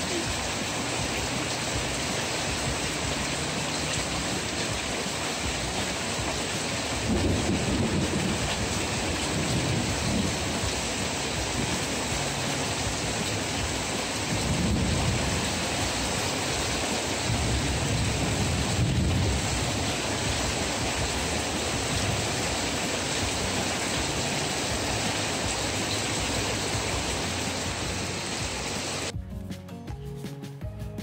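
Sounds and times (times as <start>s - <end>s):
heavy rain pouring: 0.0s - 29.1s
low rumbles: 2.7s - 29.2s.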